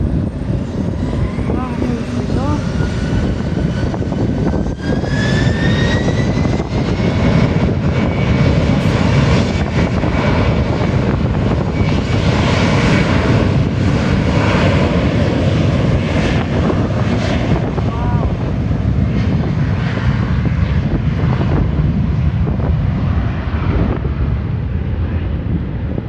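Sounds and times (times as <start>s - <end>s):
jet engines spooling up: 0.0s - 21.9s.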